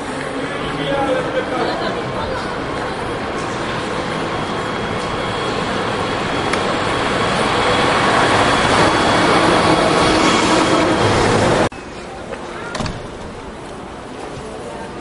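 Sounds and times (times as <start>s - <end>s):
trolleybus electric hum: 0.0s - 15.0s.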